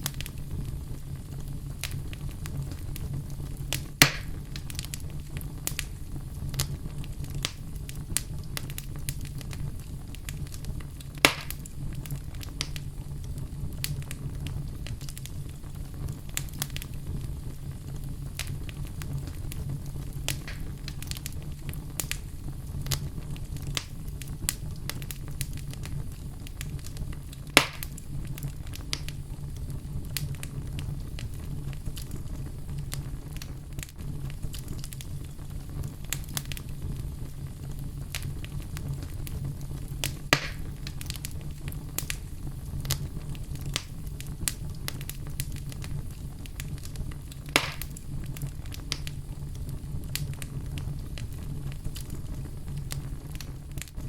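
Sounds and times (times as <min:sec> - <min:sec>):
fire crackling in fireplace: 0:00.0 - 0:54.0
loud fire pops: 0:00.0 - 0:54.0.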